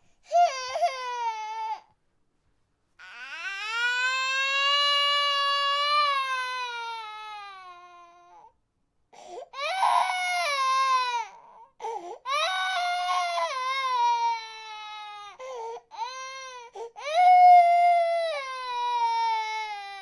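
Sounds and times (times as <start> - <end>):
infant crying: 0.3 - 1.9, 3.0 - 8.5, 9.2 - 20.0.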